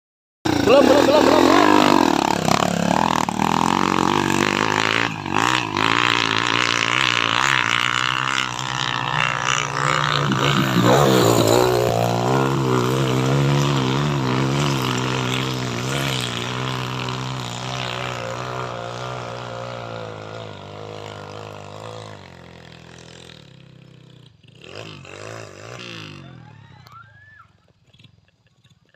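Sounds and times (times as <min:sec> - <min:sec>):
motorcycle engine revving: 0:00.5 - 0:26.8.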